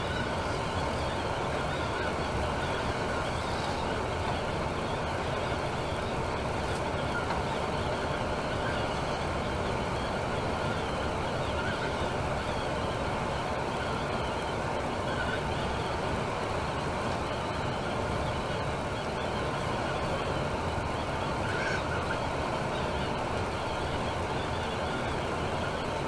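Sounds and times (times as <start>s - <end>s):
coach engine and tyre noise: 0.0s - 26.0s.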